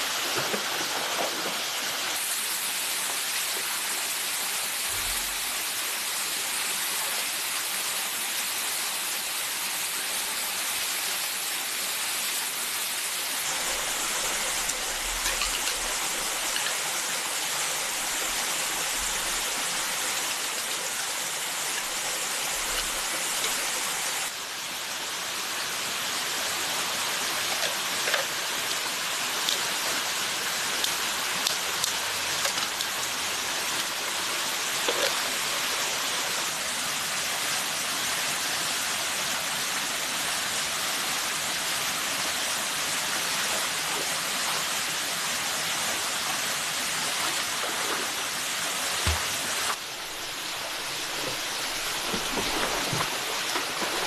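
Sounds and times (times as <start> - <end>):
rush of running water: 0.0 - 54.0.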